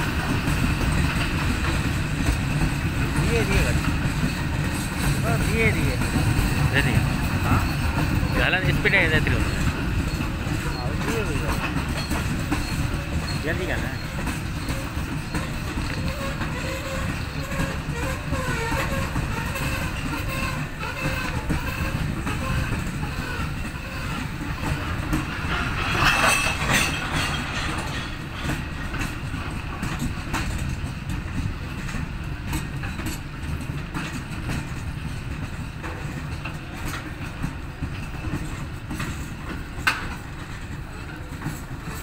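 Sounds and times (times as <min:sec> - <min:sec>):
freight train rumbling past: 0:00.0 - 0:42.0
wheels clacking over rail joints: 0:00.0 - 0:42.0.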